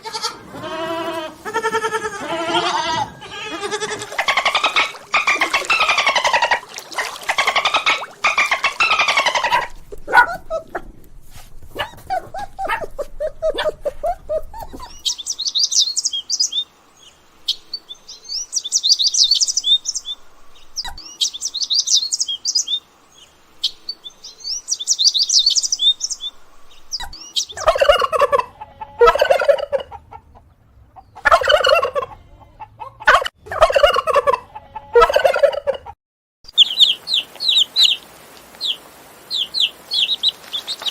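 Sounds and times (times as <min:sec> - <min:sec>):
fowl calling and chirping: 0:00.0 - 0:10.9, 0:11.8 - 0:16.7, 0:23.6 - 0:40.9.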